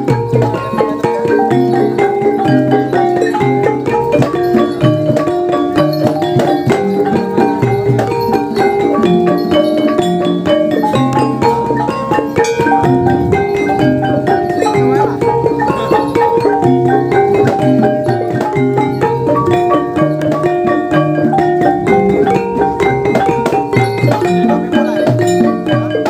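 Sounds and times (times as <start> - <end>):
gamelan music: 0.0 - 26.0.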